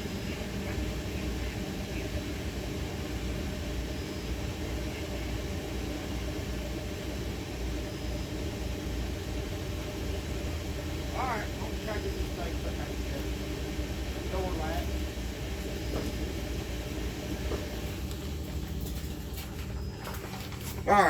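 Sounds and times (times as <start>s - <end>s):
faint steady hum: 0.0s - 21.0s
mechanical rumble with hiss: 0.0s - 21.0s.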